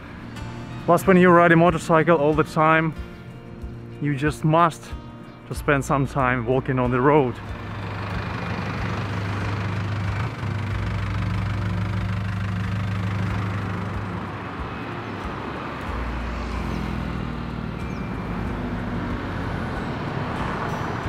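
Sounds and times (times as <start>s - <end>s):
vehicle engines humming: 0.0s - 21.0s.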